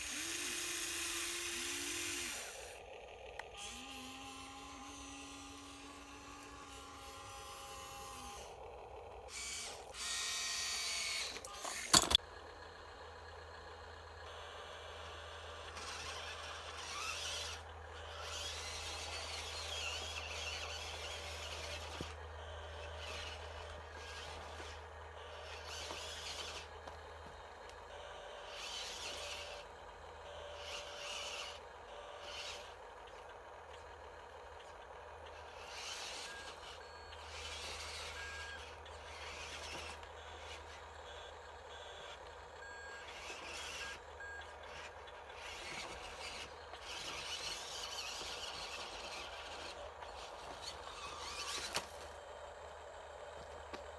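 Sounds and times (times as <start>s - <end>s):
small electric motors whining: 0.0s - 53.9s.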